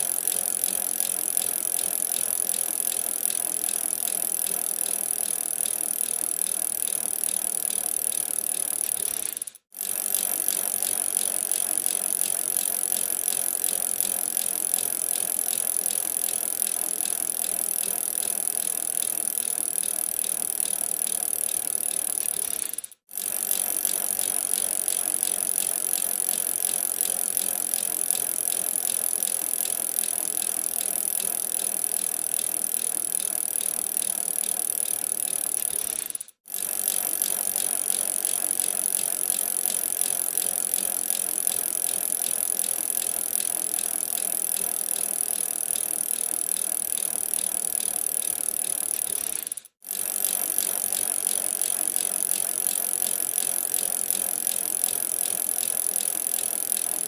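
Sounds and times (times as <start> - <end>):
bicycle running: 0.0 - 57.0.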